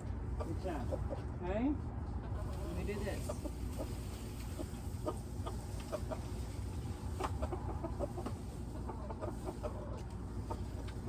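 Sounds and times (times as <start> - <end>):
chickens clucking softly: 0.1 - 1.4, 2.2 - 11.0.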